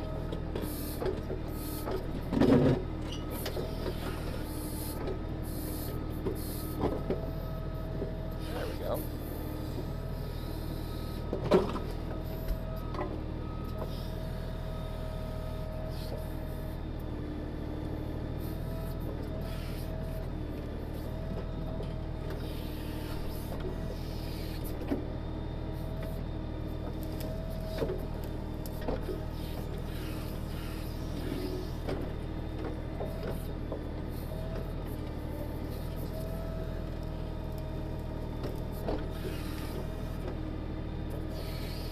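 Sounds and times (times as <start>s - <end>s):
hydraulic whine: 0.0s - 40.4s
tractor diesel engine running: 0.0s - 41.9s.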